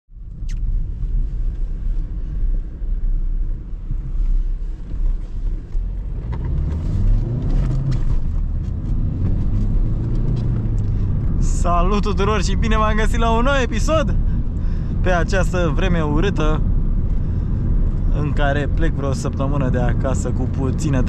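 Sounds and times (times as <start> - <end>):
car engine and road rumble: 0.1 - 21.0.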